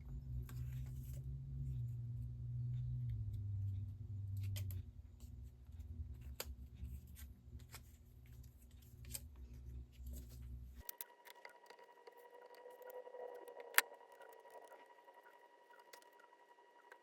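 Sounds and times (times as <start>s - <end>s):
low hum: 0.0s - 7.6s, 9.3s - 17.0s.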